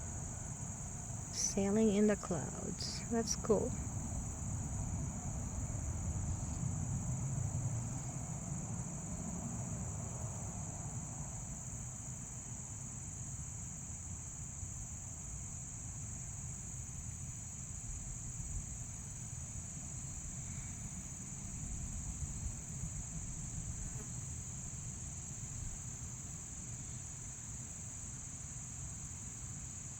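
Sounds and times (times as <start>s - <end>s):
crickets chirring: 0.0s - 29.9s.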